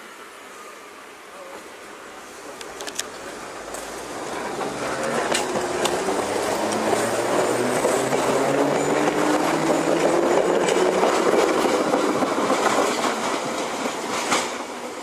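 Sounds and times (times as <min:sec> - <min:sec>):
electric train pulling away: 0:01.8 - 0:15.0.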